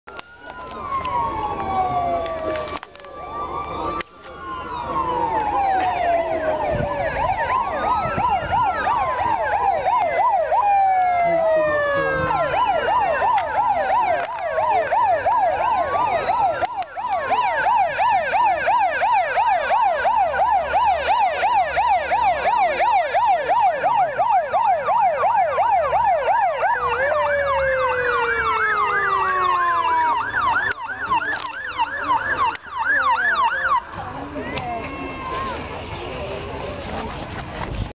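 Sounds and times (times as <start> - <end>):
siren wails: 0.1 - 36.0
siren yelp: 0.1 - 36.0.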